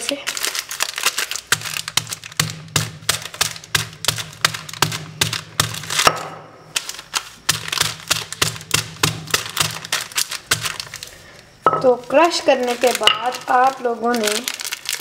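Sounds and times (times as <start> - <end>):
crackling wrapper: 0.0 - 15.0
rod pounding biscuit packets: 0.3 - 15.0.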